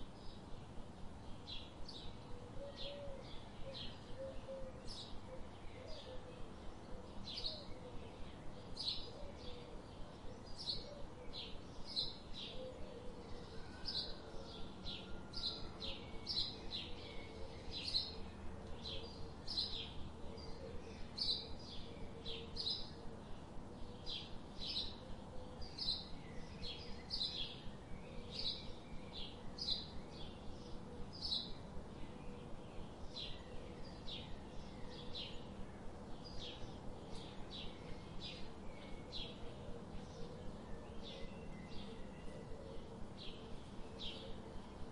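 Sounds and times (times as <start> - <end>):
faint background hum: 0.0 - 44.9
bird chirping: 1.3 - 44.9.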